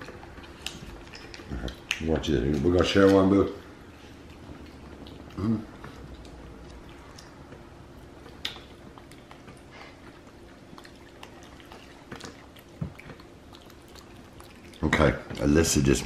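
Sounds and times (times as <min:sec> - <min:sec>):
faint chewing and mouth clicks: 0:00.0 - 0:16.0.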